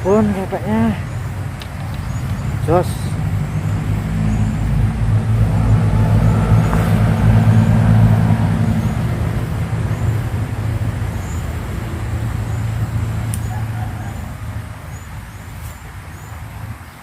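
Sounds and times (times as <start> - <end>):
vehicle engine passing: 0.0 - 17.0.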